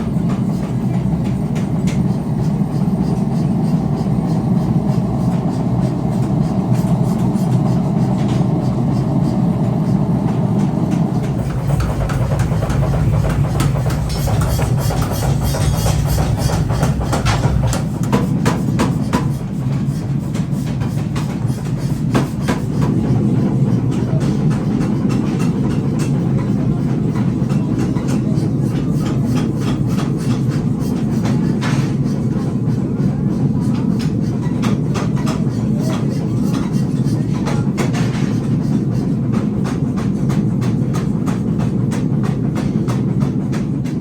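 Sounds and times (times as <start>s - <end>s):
factory machinery rumbling: 0.0s - 44.0s.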